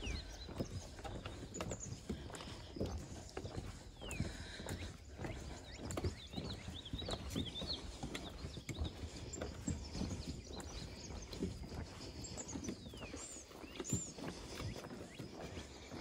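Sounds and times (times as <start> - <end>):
footsteps on wooden boardwalk: 0.0 - 16.0
small birds chirping: 0.0 - 16.0.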